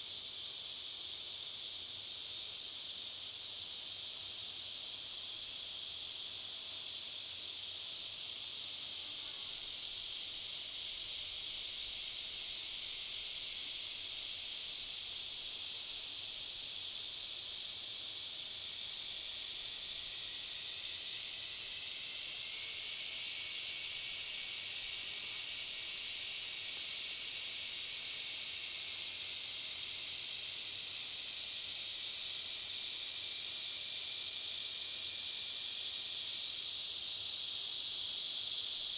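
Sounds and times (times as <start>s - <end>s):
cicadas buzzing: 0.2s - 38.9s.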